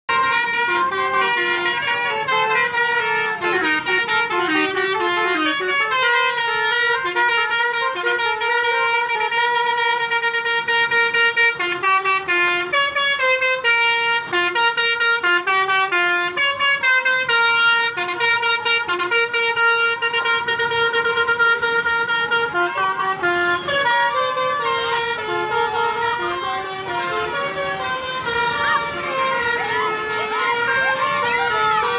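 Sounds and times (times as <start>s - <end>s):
multi-tone musical bus horn: 0.0s - 31.9s.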